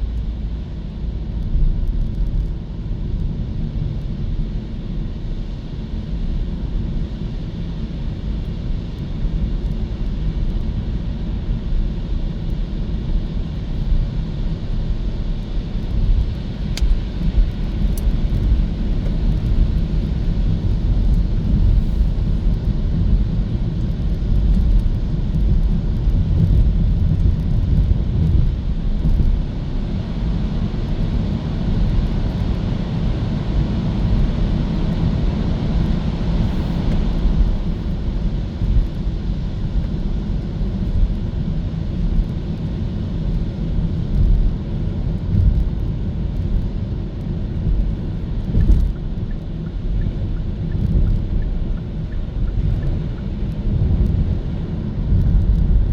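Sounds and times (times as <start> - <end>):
road and tyre rumble: 0.0 - 55.9.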